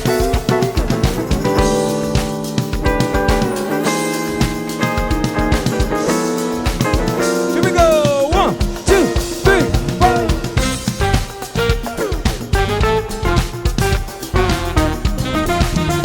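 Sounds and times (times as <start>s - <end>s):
smooth jazz band playing: 0.0s - 16.0s.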